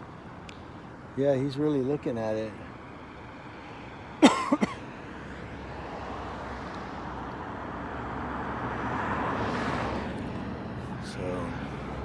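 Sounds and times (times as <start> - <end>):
car passing: 0.0 - 12.0.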